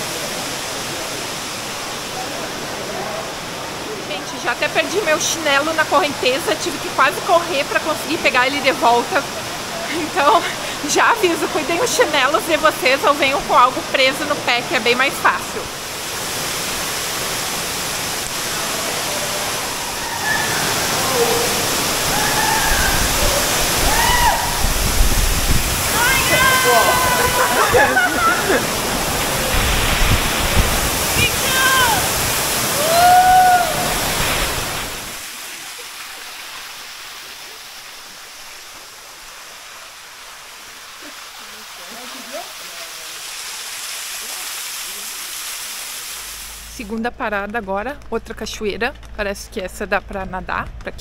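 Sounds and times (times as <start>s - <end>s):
waterfall pouring: 0.0s - 48.5s.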